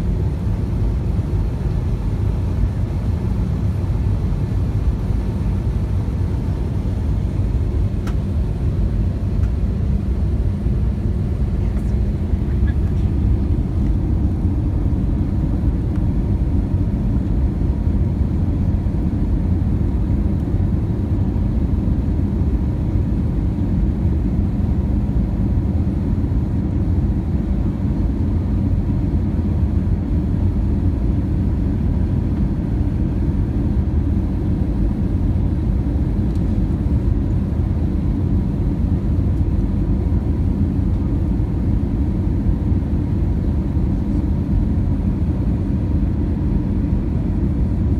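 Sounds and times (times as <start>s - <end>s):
airplane engine and airflow rumble: 0.0s - 47.9s.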